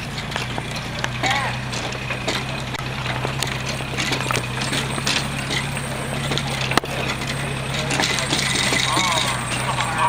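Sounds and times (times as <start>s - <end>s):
float rattling on trailer: 0.0s - 10.0s
low hum of tow vehicle: 0.0s - 10.0s.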